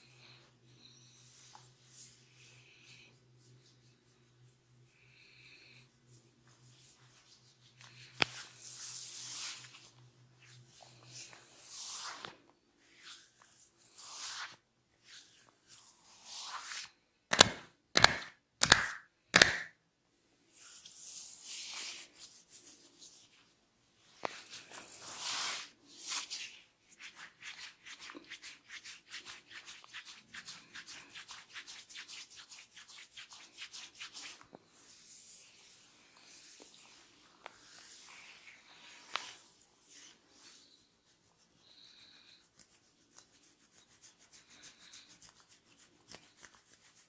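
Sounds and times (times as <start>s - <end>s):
hands rubbing skin: 5.7s - 19.6s, 20.6s - 47.0s.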